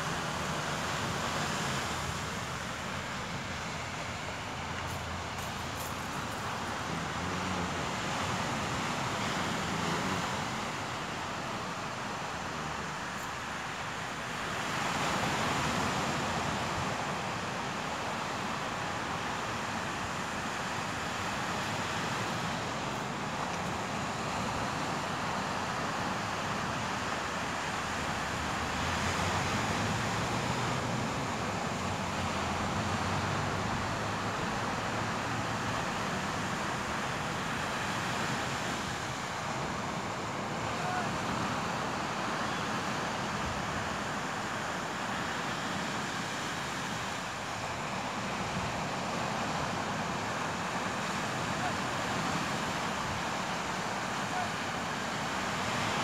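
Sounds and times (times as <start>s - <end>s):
sea surf breaking on beach: 0.0s - 56.0s.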